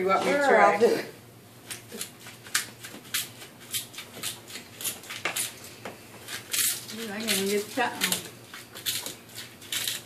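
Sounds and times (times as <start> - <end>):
spice grinder grinding: 1.6 - 10.0.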